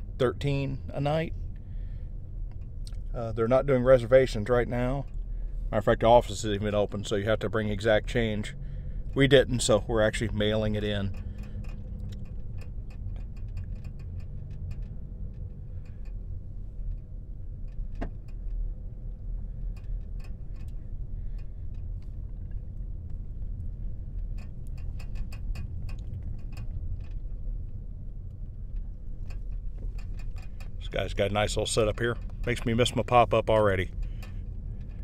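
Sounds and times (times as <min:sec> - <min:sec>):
engine rumble in car cabin: 0:00.0 - 0:35.0.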